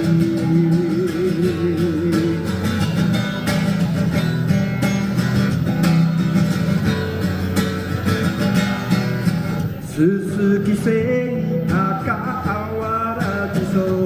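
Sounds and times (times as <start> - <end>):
guitar strumming: 0.0 - 14.0.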